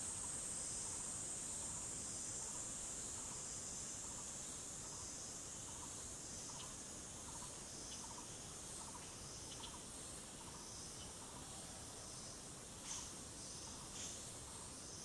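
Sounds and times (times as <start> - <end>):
insects droning high-pitched: 0.0 - 15.0.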